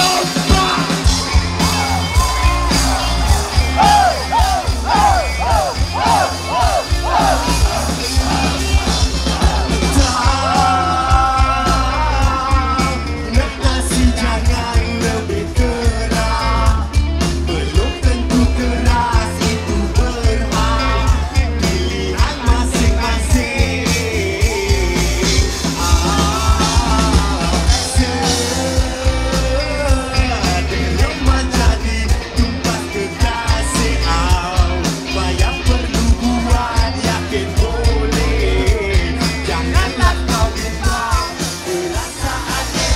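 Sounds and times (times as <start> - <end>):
crowd: 0.0 - 42.9
electric guitars: 0.0 - 42.9
singer: 0.0 - 42.9
steady drum beat: 0.0 - 42.9.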